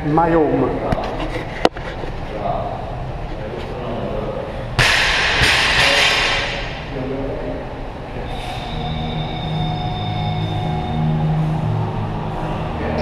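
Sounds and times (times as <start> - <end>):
steady background tones: 0.0 - 13.0.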